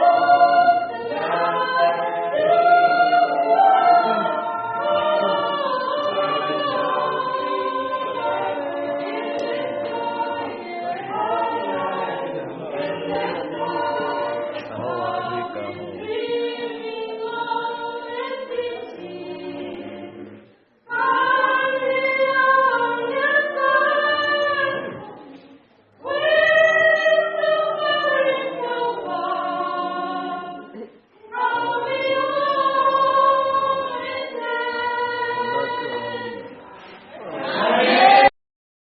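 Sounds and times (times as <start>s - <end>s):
vocal quartet singing gospel: 0.0s - 38.3s.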